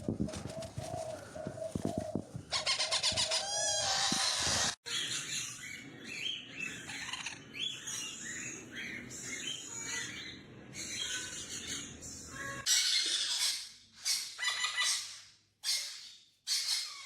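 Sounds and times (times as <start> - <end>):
parrots chirping: 2.5 - 17.0.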